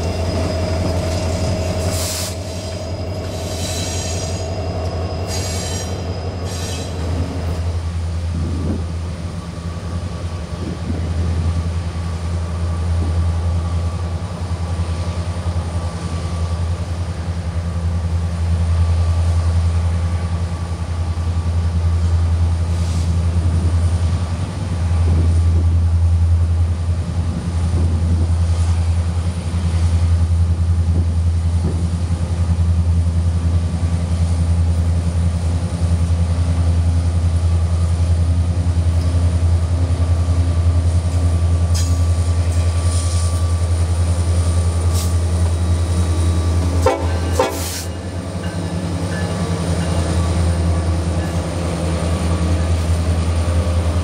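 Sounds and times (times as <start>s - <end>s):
locomotive engine drone: 0.0s - 54.0s.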